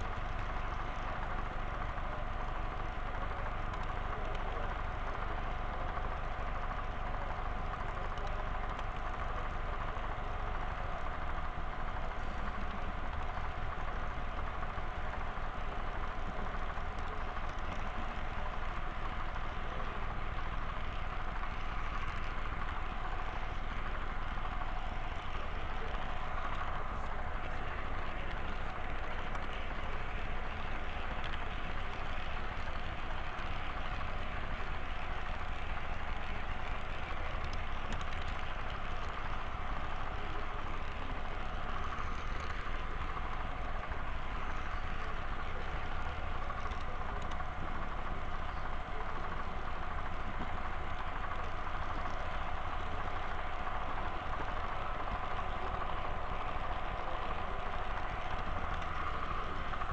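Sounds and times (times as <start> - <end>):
model train whine: 0.0 - 59.9
wheels rolling on rails: 0.0 - 59.9.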